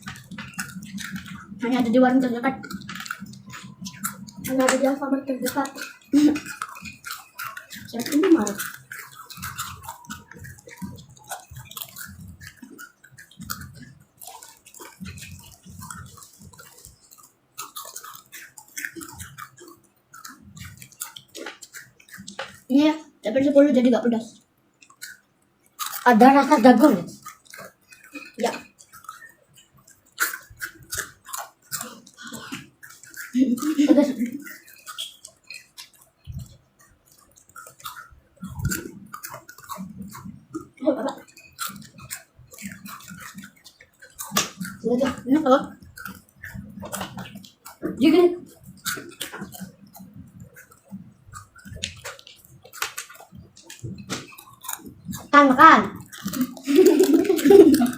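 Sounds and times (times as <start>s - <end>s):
chewing crunchy snack: 0.0s - 57.9s.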